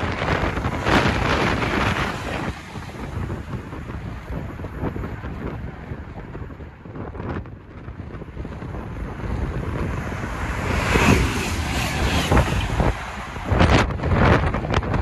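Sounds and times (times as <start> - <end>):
diesel train passing: 0.0 - 15.0
wind buffeting microphone: 0.0 - 15.0.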